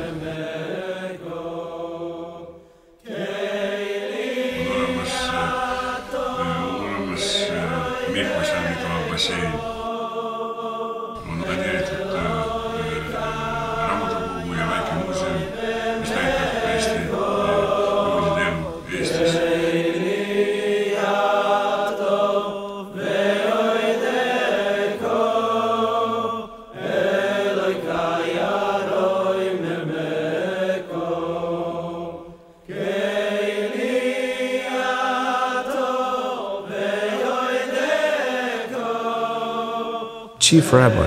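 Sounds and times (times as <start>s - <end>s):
person chanting: 3.1s - 10.0s, 11.0s - 32.1s, 32.7s - 41.0s.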